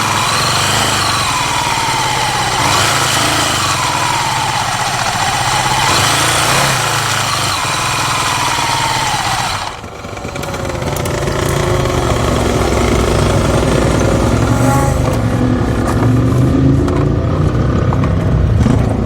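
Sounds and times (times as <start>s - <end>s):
low steady engine note: 0.0s - 19.0s
motorcycle engine running: 0.0s - 19.0s.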